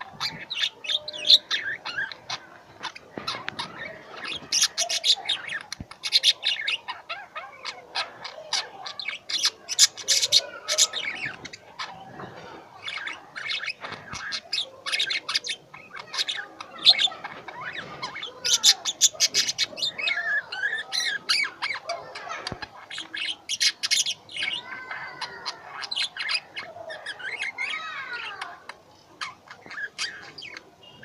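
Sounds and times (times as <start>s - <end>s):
lovebirds chirping and squawking: 0.0s - 31.0s.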